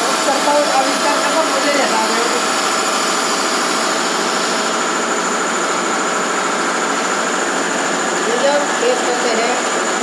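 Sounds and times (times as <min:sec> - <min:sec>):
workshop machinery noise: 0:00.0 - 0:10.0.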